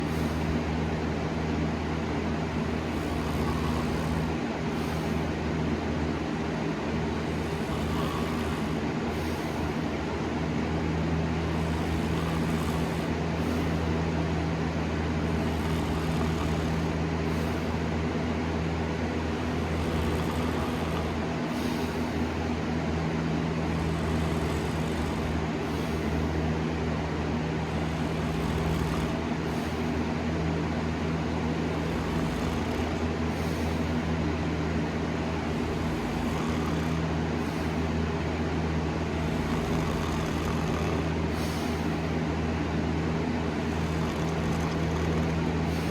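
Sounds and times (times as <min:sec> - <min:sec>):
low mechanical hum: 0:00.0 - 0:45.9.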